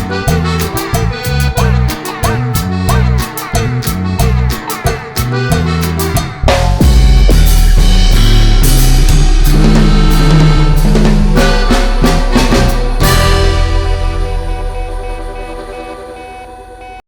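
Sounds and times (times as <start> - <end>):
drum kit: 0.0 - 15.8
bass line: 0.0 - 16.6.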